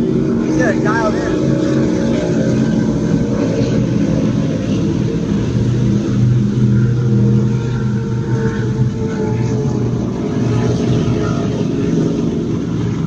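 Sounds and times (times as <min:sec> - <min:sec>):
powerboat engines droning: 0:00.0 - 0:13.0.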